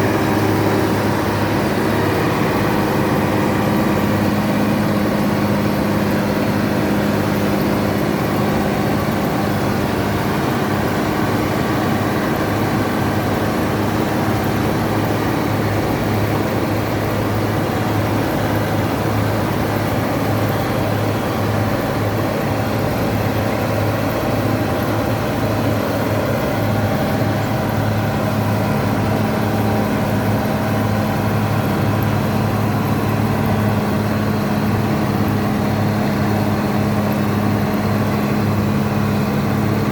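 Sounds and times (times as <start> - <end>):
diesel engine running steadily: 0.0 - 39.9
harvesting machine whirring: 0.0 - 39.9.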